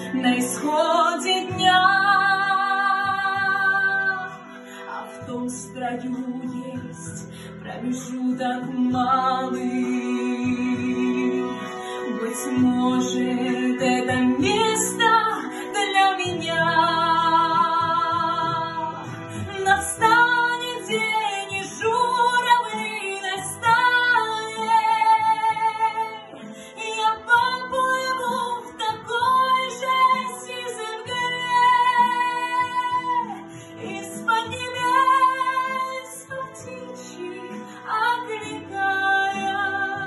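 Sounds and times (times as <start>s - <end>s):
recorded instrumental accompaniment: 0.0s - 40.0s
woman singing a slow ballad: 0.0s - 40.0s.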